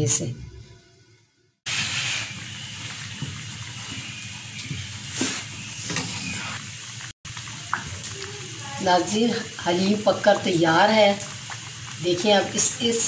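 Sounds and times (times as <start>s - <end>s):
thick stew simmering with hiss: 1.7s - 13.0s.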